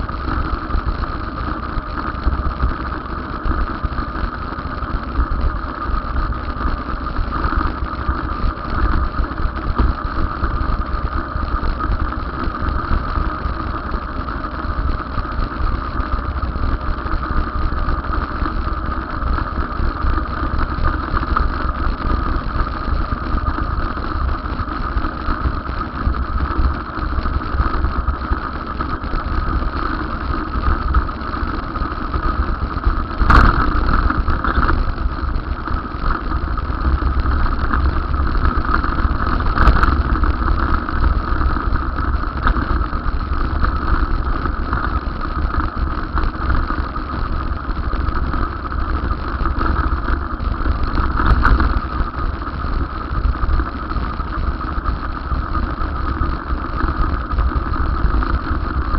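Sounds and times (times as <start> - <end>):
vehicle running low rumble: 0.0 - 58.9.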